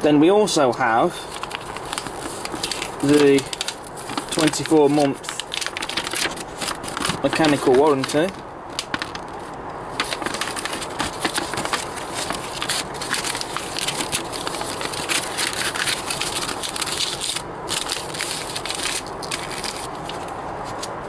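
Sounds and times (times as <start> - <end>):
paper leaflet crinkling: 1.2 - 21.0.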